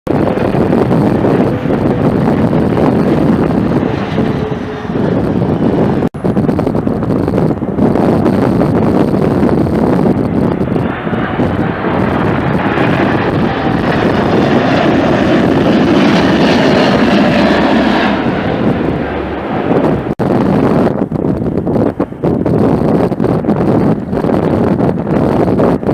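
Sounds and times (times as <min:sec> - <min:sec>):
jet airliner passing: 0:00.1 - 0:25.9
wind buffeting microphone: 0:00.1 - 0:25.9.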